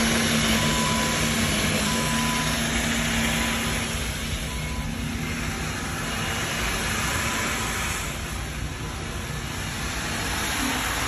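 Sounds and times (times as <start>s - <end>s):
floor scrubber motors whirring: 0.0s - 11.0s.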